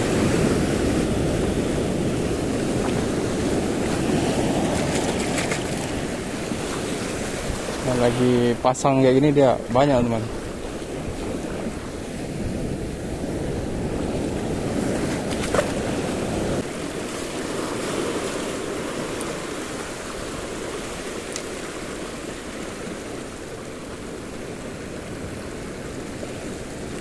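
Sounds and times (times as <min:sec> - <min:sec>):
sea surf washing ashore: 0:00.0 - 0:27.0
wind rumbling on microphone: 0:00.0 - 0:27.0.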